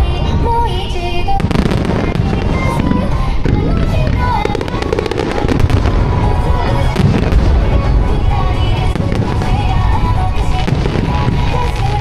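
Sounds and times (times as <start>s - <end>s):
fireworks bursts and crackles: 0.0s - 12.0s
pop music over loudspeakers: 0.0s - 12.0s.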